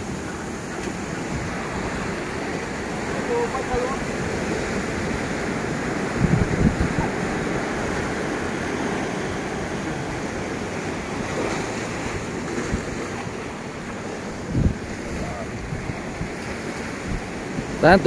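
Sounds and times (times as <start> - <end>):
surf washing up a beach: 0.0 - 18.0
wind buffeting microphone: 0.0 - 18.0.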